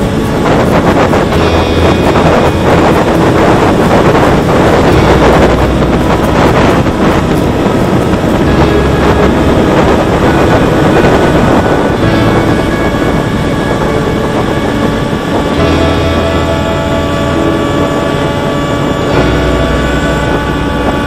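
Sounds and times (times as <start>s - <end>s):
electric motor and propeller: 0.0s - 21.0s
wind buffeting microphone: 0.0s - 21.0s.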